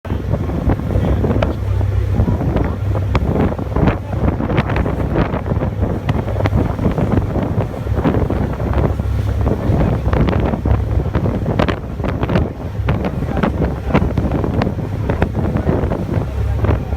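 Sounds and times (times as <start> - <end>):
low rumble of ferry: 0.0 - 16.9
wind buffeting the microphone: 0.0 - 16.9.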